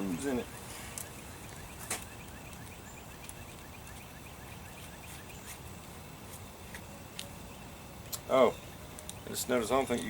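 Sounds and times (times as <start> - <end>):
bird chirping: 0.0 - 10.0
outdoor background noise: 0.0 - 10.0.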